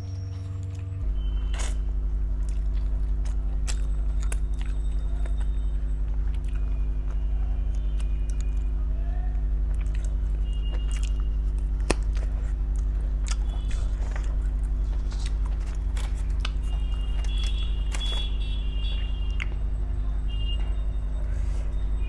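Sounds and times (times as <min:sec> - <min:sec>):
low electrical hum: 0:00.0 - 0:22.0
wet chewing: 0:00.0 - 0:22.0.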